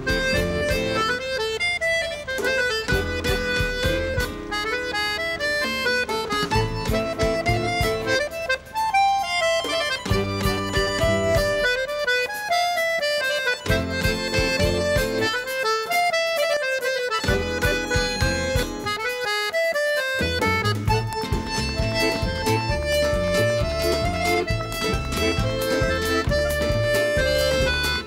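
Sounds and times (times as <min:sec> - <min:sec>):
instrumental music with pulsing bass: 0:00.0 - 0:28.0.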